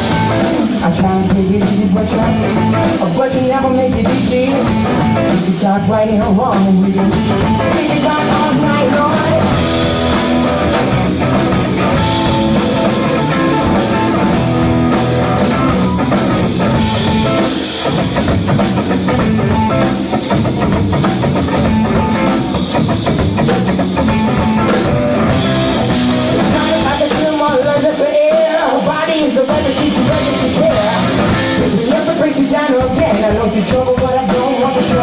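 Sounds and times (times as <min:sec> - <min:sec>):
blues-rock band playing: 0:00.0 - 0:35.0
electric guitar lead: 0:00.0 - 0:35.0.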